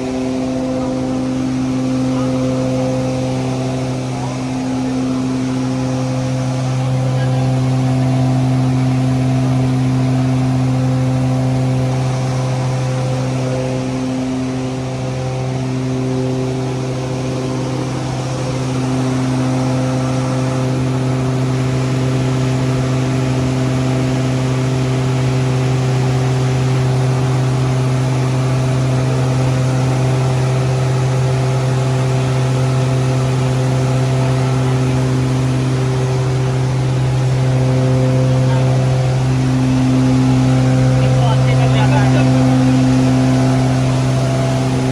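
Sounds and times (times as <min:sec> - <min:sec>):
feed grinder humming: 0:00.0 - 0:44.9.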